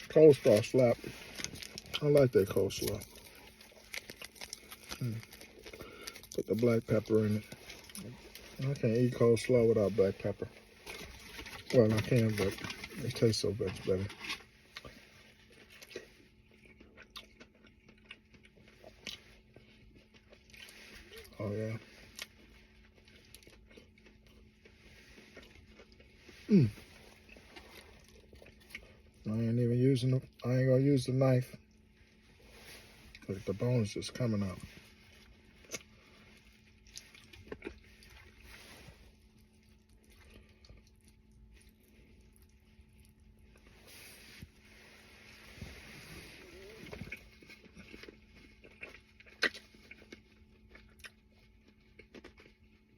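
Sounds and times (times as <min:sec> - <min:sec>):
person chewing food: 0:00.0 - 0:09.8, 0:14.1 - 0:21.4, 0:22.0 - 0:29.2, 0:34.7 - 0:52.9.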